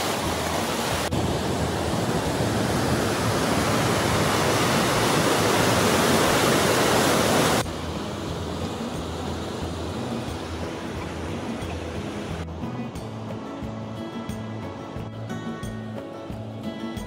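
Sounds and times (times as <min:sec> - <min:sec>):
river water rushing over weir: 0:00.0 - 0:16.9.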